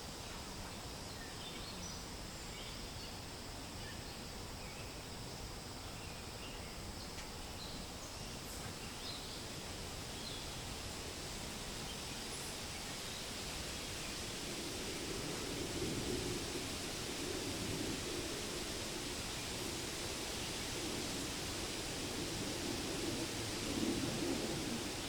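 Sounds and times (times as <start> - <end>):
wind rustling leaves: 0.0 - 25.0.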